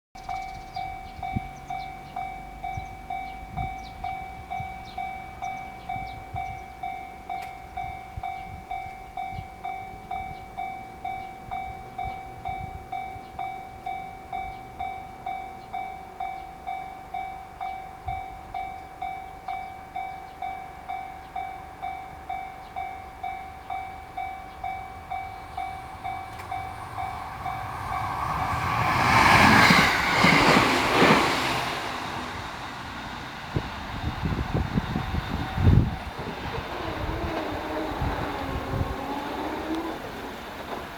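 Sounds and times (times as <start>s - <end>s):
train approaching: 0.2s - 40.9s
level-crossing bell ringing: 0.3s - 33.3s.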